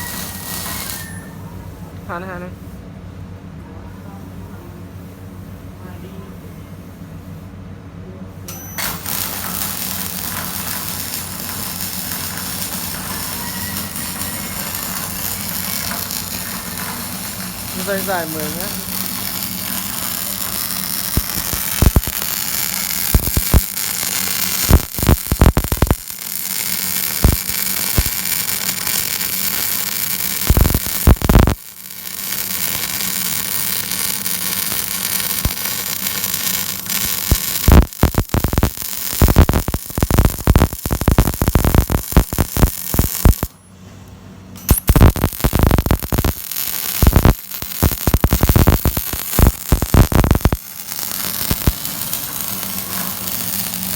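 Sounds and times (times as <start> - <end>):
electric arc welding hiss: 0.0 - 1.2, 8.5 - 43.6, 44.6 - 53.9
sharp welding crackles: 0.0 - 1.4, 8.5 - 43.6, 44.6 - 53.9
mains hum: 0.0 - 53.9.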